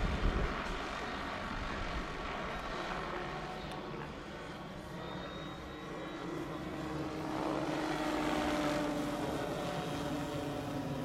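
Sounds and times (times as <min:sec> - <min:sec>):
rc helicopter rotor whine: 0:00.0 - 0:11.0.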